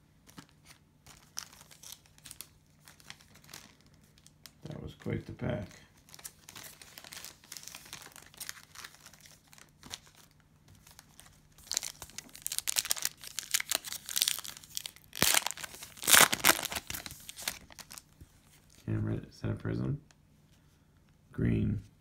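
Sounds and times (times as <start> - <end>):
cellophane wrapper crinkling: 0.2 - 18.8.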